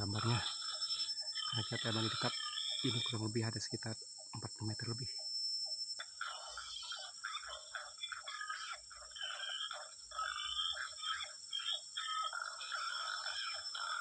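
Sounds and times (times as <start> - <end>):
chorus of frog-like calls: 0.0 - 14.0.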